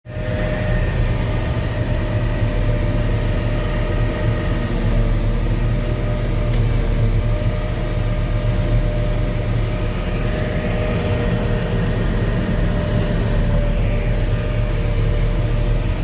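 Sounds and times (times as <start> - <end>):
wheel loader engine drone: 0.0 - 16.0
steady whining tones: 0.1 - 16.0.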